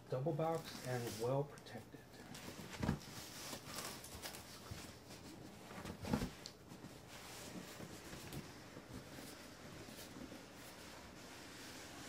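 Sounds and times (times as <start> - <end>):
cardboard rustling and scraping: 2.3 - 12.0.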